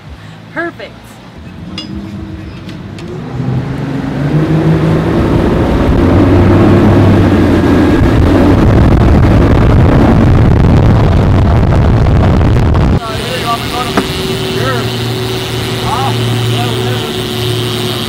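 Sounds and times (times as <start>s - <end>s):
outboard motors accelerating: 0.0s - 18.0s.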